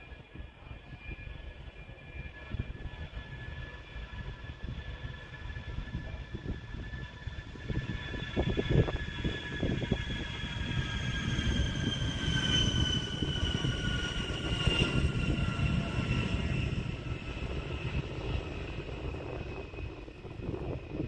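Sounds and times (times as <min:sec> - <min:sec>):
jet engine whining: 0:00.0 - 0:21.0.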